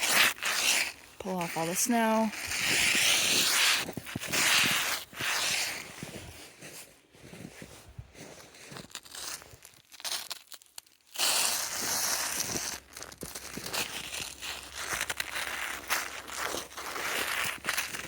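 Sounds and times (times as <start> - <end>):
snow and ice crunching: 0.0 - 18.0.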